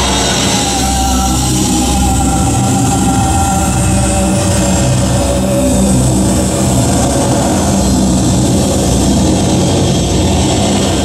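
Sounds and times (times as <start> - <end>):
electronic noise drone: 0.0 - 11.0.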